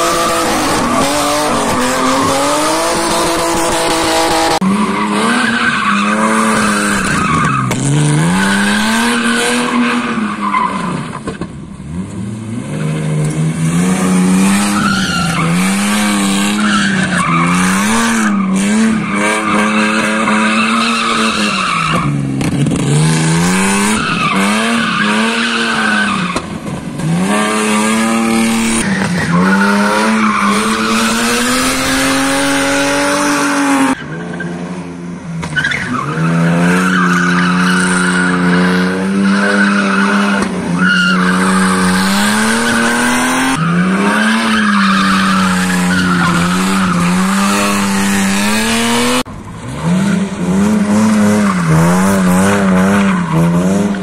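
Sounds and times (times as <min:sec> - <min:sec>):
car engine revving: 0:00.0 - 0:34.1, 0:35.4 - 0:54.0
tyres skidding and squealing: 0:00.0 - 0:54.0.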